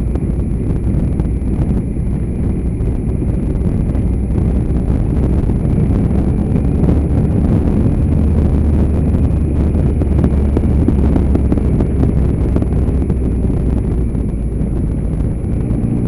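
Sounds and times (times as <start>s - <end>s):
motorbike engine and road rumble: 0.0s - 16.0s
wind buffeting microphone: 0.0s - 16.0s.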